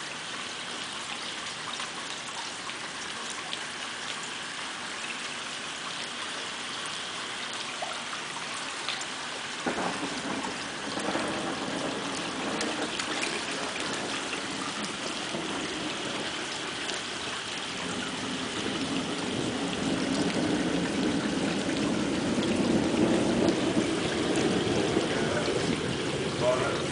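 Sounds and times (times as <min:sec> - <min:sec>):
rain pattering on water and grass: 0:00.0 - 0:26.9.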